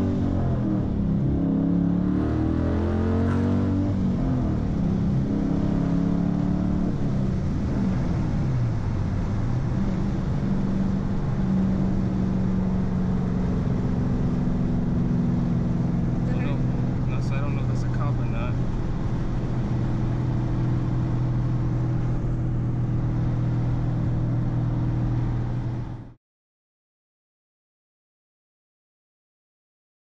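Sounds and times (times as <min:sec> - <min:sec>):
car engine accelerating through gears: 0:00.0 - 0:26.2.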